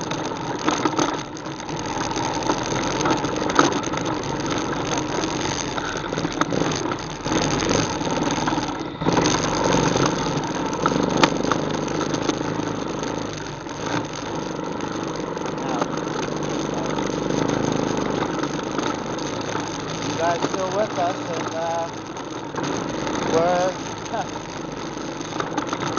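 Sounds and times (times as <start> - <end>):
atv engine running: 0.0 - 25.9.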